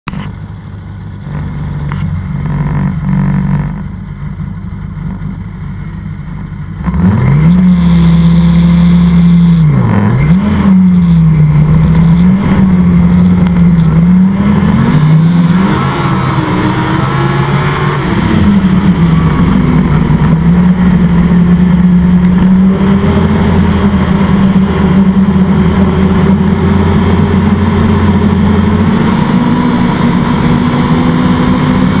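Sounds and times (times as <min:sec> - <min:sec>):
snowmobile engine: 0:00.1 - 0:32.0.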